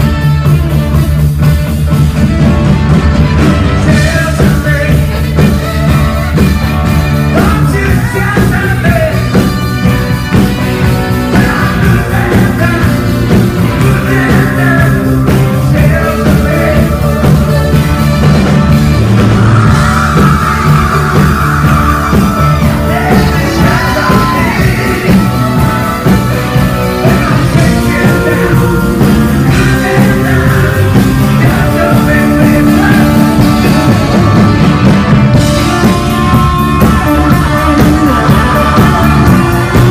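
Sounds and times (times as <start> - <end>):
live rock band playing: 0.0 - 39.9
saxophone: 0.0 - 39.9
lead vocals singing: 3.8 - 39.9.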